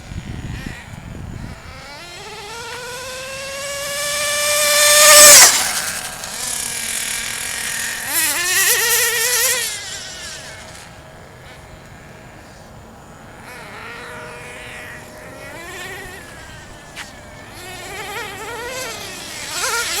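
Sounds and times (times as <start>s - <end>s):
toy car motor whining: 0.0s - 20.0s.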